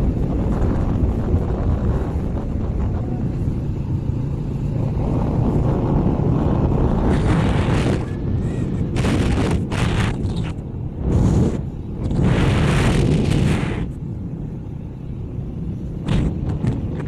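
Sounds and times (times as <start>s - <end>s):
engine and road rumble: 0.0s - 17.0s
wind noise on microphone: 0.0s - 17.0s.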